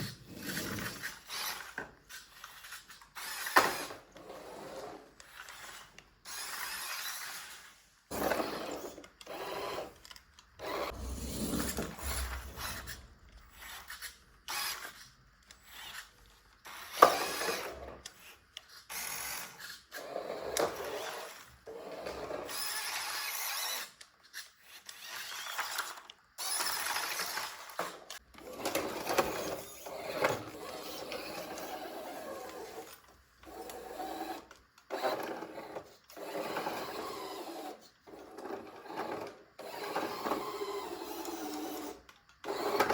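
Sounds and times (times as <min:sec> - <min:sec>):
toy car motor whirring: 0:00.0 - 0:42.9.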